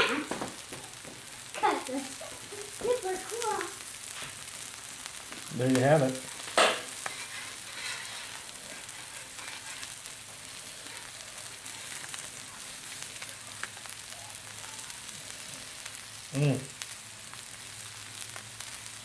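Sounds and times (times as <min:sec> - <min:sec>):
fish sizzling on a griddle: 0:00.0 - 0:19.0
small crackles: 0:00.0 - 0:19.0.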